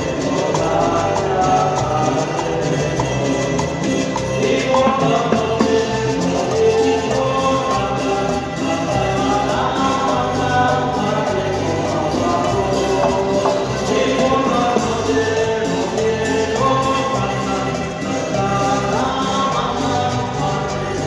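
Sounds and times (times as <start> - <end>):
percussive beat: 0.0 - 21.0
person singing: 0.0 - 21.0.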